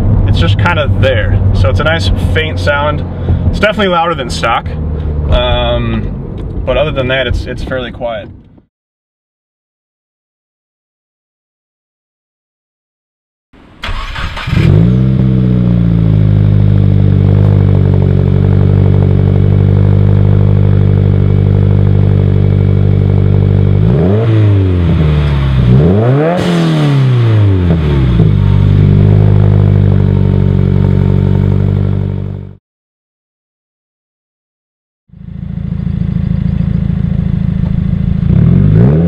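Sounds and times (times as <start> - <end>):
car engine revving: 0.0 - 8.6, 13.6 - 32.6, 35.1 - 39.0
car engine starting and idling: 0.0 - 8.6, 13.6 - 32.5, 35.1 - 39.0.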